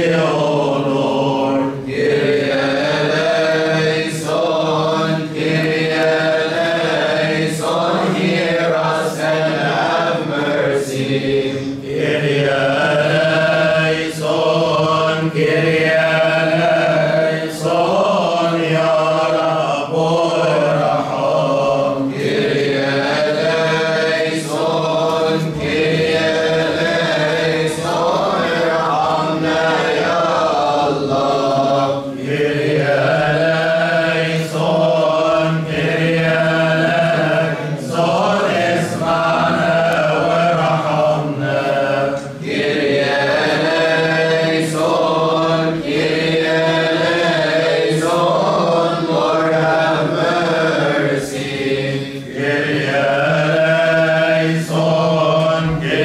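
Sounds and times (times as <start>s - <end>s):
group chanting in unison: 0.0s - 56.0s.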